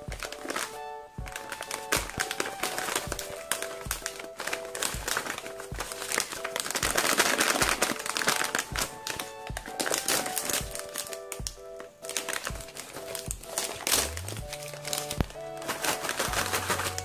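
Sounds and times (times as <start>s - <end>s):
light background music: 0.0s - 17.0s
snack bag crinkling: 0.0s - 17.0s.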